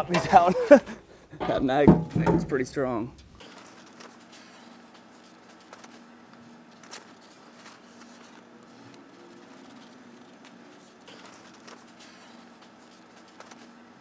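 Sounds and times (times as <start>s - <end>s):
steady low hum: 0.7s - 14.0s
handling noises: 1.4s - 14.0s.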